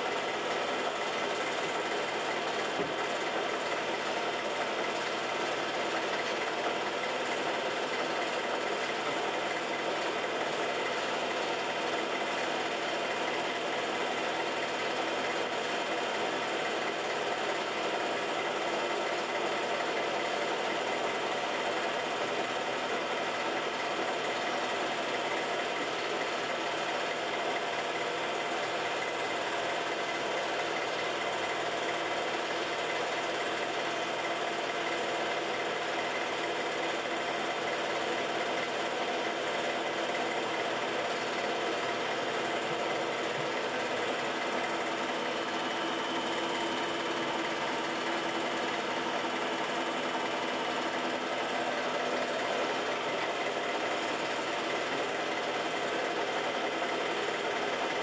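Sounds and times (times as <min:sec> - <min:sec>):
film projector whirring: 0:00.0 - 0:58.0.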